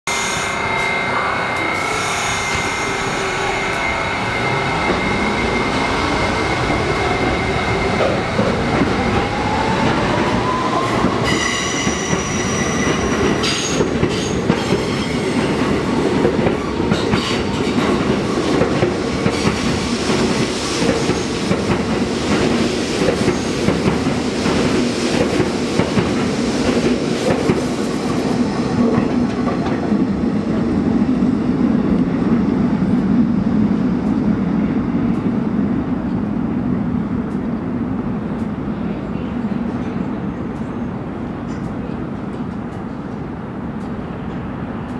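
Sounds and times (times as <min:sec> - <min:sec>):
train rumble: 0:00.5 - 0:44.9.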